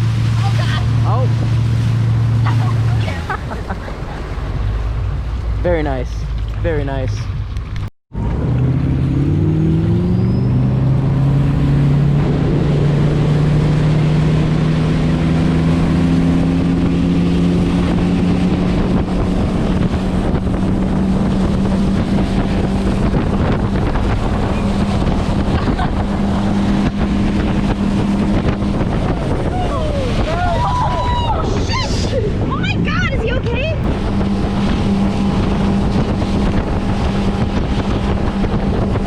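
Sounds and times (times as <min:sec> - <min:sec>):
motorboat engine speeding up: 0:00.0 - 0:39.0
wind rushing over microphone: 0:00.0 - 0:39.0.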